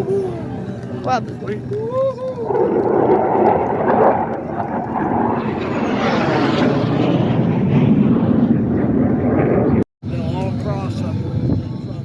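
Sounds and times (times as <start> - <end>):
jet flying by: 0.0 - 12.0.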